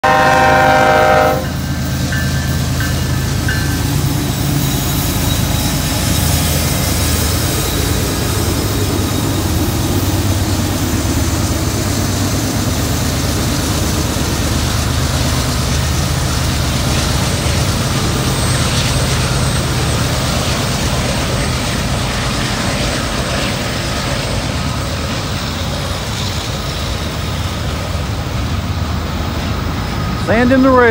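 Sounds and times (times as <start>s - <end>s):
diesel locomotives rumbling: 0.0s - 30.9s
freight cars passing: 0.0s - 30.9s.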